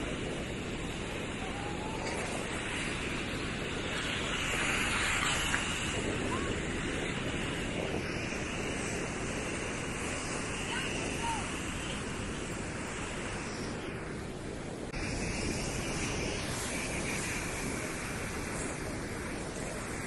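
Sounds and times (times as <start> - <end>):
ocean surf breaking on beach: 0.0 - 20.0.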